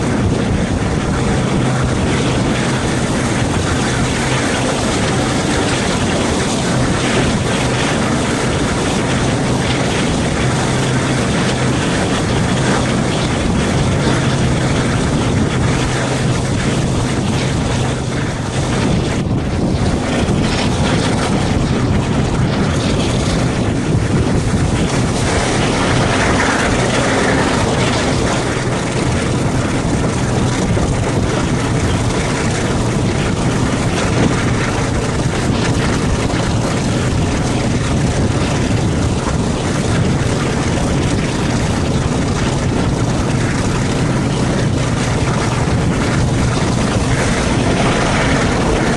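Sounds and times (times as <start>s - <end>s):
diesel locomotive engine: 0.0s - 48.9s
train running noise: 0.0s - 48.9s
wind on microphone: 0.0s - 48.9s.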